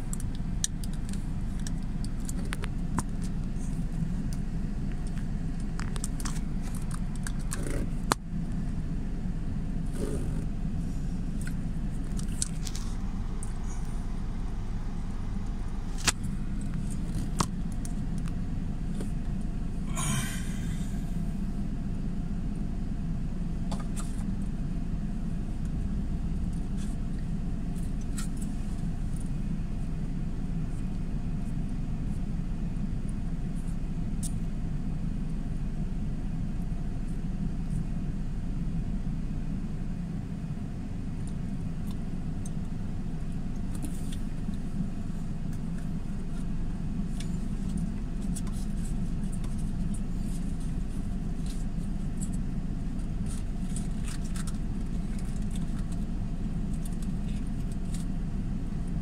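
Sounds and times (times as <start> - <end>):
low rumble of car: 0.0 - 59.0.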